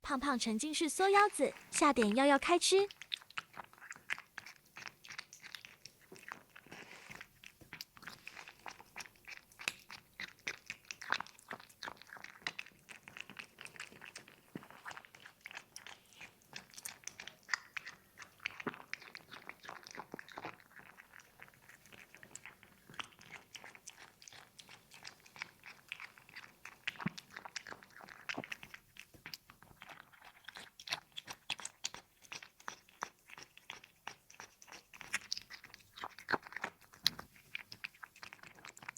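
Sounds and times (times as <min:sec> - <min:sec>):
cat crunching food: 0:02.9 - 0:38.9.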